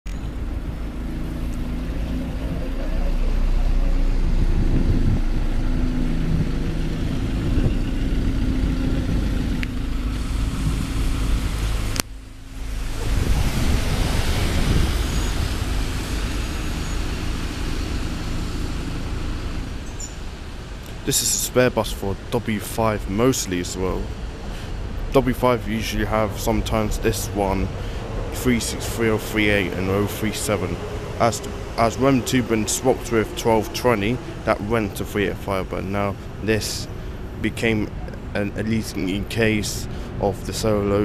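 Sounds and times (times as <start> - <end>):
bus engine running: 0.1 - 41.0.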